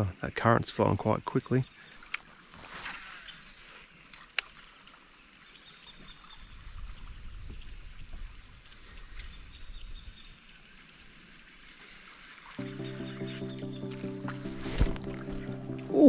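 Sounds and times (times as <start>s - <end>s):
river water around a kayak: 0.0s - 16.0s.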